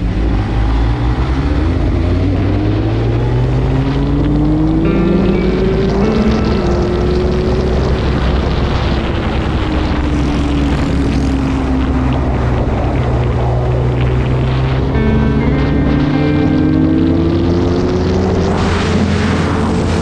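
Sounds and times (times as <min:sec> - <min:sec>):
motorcycle engine cruising: 0:00.0 - 0:20.0
wind noise: 0:00.0 - 0:20.0.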